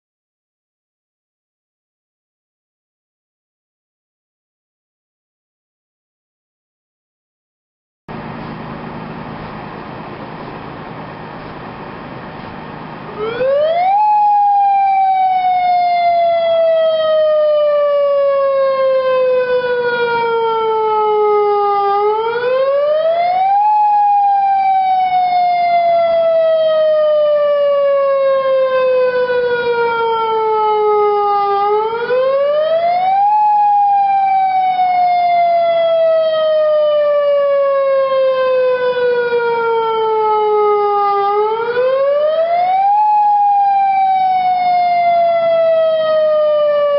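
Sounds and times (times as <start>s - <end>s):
tornado siren rising and falling: 8.1s - 46.9s.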